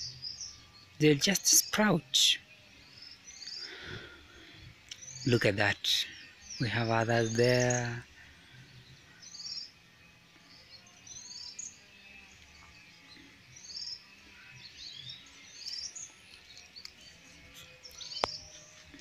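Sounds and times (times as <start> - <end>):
birds chirping and trilling: 0.0 - 19.0
faint outdoor hiss: 0.0 - 19.0.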